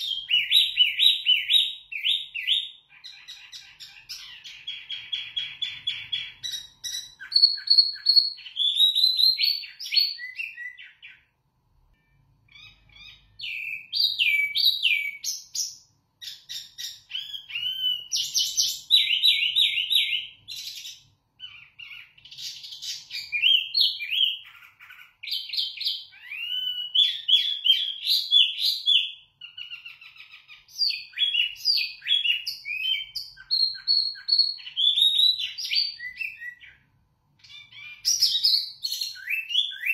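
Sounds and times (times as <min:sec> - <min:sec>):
songbird singing whistled trills: 0:00.0 - 0:11.3, 0:12.0 - 0:39.9.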